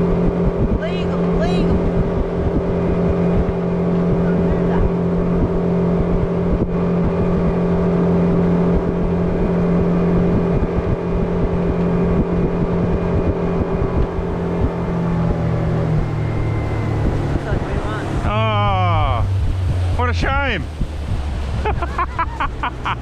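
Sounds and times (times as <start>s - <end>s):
hull and water noise: 0.0s - 23.0s
outboard motor drone: 0.0s - 23.0s.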